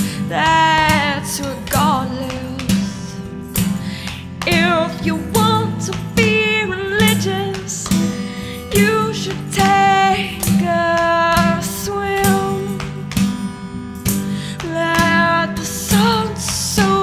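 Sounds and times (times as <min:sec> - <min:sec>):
strummed guitar: 0:00.0 - 0:17.0.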